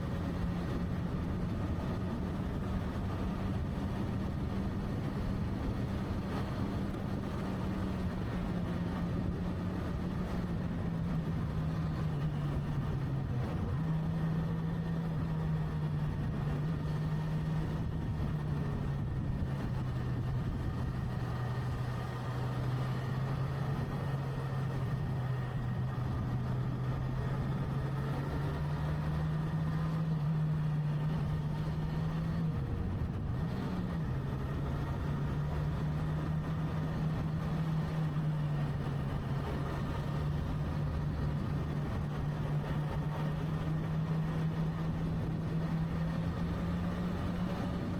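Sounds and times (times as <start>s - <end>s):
road noise: 0.0s - 47.9s
wind noise: 0.0s - 47.9s.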